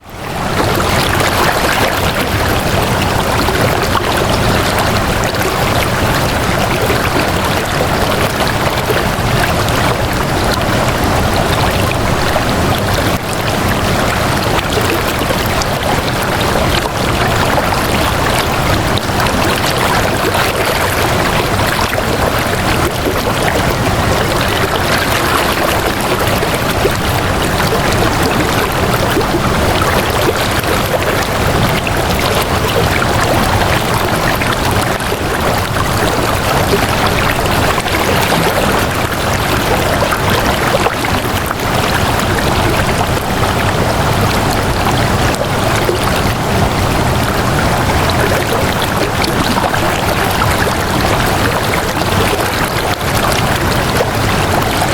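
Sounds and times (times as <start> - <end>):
flowing water stream: 0.0 - 54.9.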